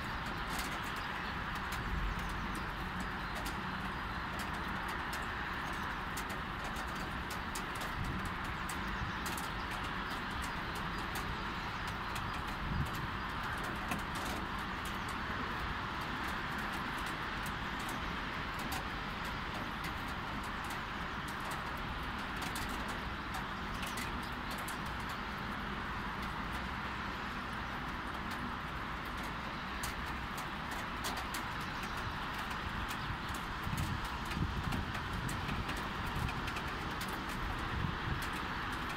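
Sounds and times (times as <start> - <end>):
low hum of city traffic: 0.0 - 38.9
raindrops ticking: 0.0 - 38.9.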